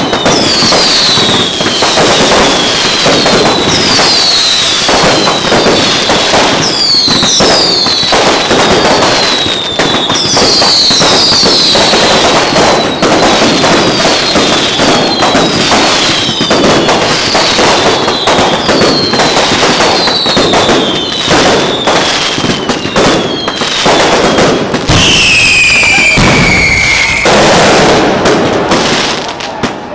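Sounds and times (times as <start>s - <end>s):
falling firework whistles: 0.0s - 29.9s
fireworks crackling and popping: 0.0s - 29.9s.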